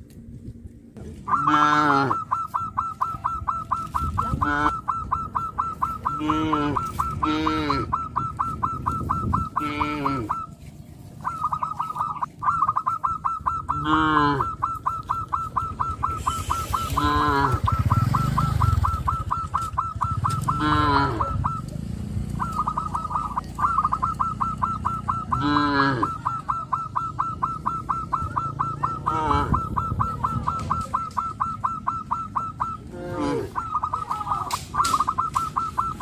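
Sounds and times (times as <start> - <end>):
geese honking: 1.2 - 36.0.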